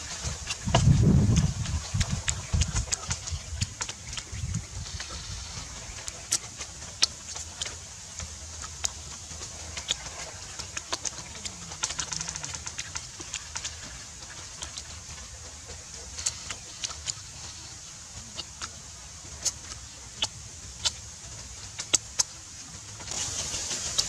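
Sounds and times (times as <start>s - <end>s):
low steady rumble: 0.0s - 24.0s
person chewing crunchy food: 0.0s - 24.0s.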